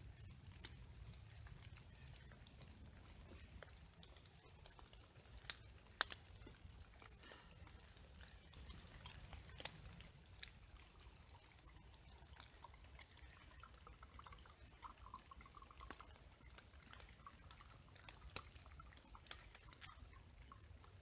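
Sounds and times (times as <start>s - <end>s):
raindrops and drips tapping: 0.0s - 21.0s.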